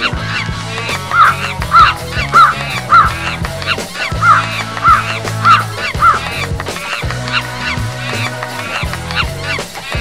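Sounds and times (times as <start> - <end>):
background music with bass: 0.0 - 10.0
goose-like honking calls: 0.0 - 10.0.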